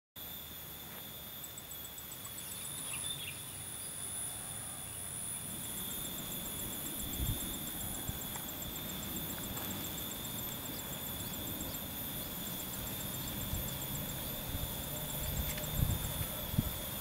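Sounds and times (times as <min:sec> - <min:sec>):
insect chirping fast: 0:00.2 - 0:17.0
insects shrilling: 0:00.2 - 0:17.0.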